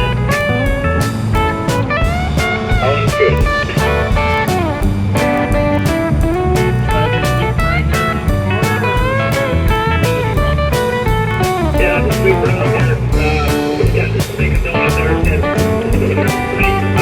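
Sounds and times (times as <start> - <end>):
electric guitar: 0.0 - 17.0
steady drum beat: 0.0 - 17.0.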